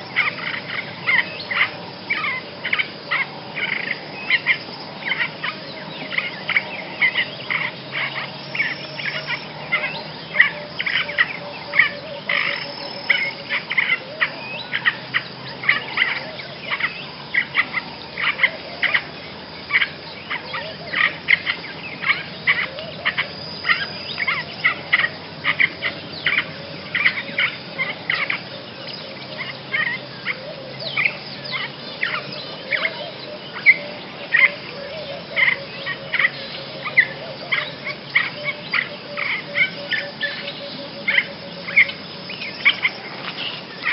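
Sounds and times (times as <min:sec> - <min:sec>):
reed warbler singing: 0:00.0 - 0:43.9.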